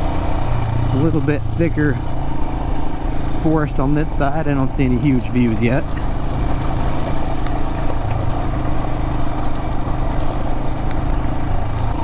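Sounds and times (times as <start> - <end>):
motorcycle engine running: 0.0 - 12.0
tyres rolling over gravel: 0.0 - 12.0.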